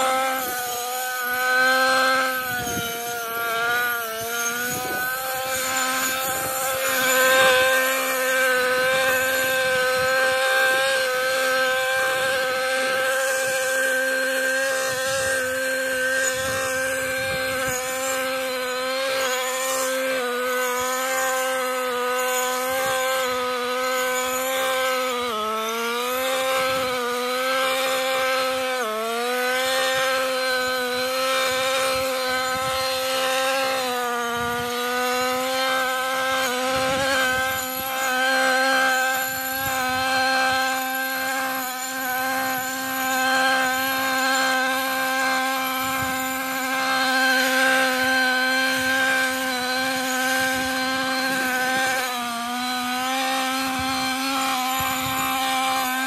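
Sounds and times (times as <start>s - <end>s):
brushcutter engine running: 0.0s - 56.0s.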